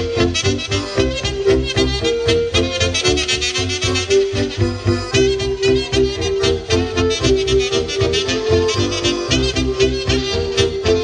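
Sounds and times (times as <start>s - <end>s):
keyboard: 0.0s - 11.0s
pulsing bass beat: 0.0s - 11.0s
saxophone melody: 0.0s - 11.0s.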